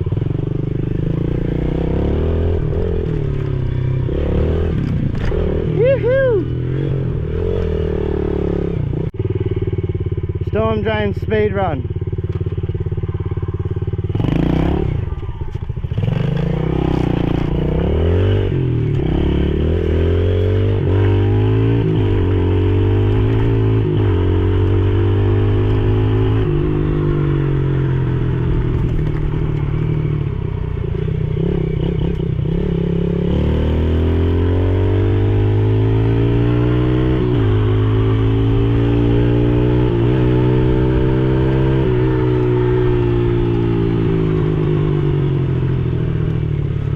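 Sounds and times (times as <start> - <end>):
motorbike engine revving: 0.0 - 46.9.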